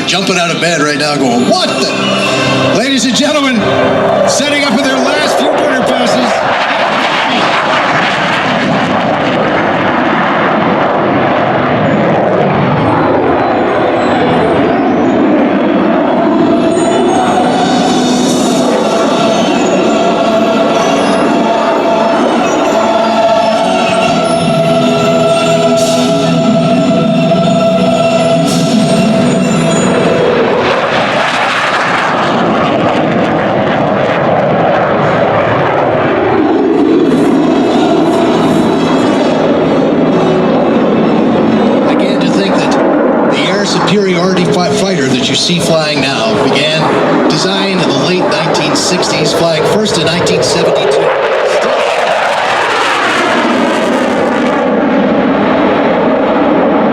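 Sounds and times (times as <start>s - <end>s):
jet engine roar: 0.0s - 56.9s.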